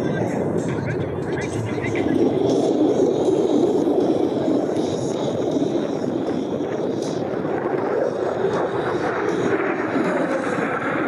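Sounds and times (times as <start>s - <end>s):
jet engine in flight: 0.0s - 11.0s.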